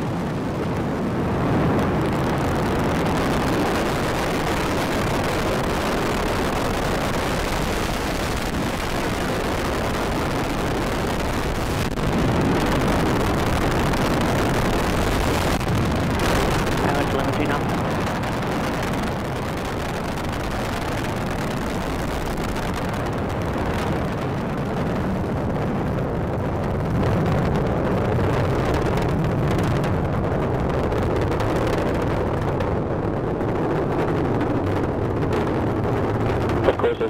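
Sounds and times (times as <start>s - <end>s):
rocket engines roaring: 0.0s - 37.0s.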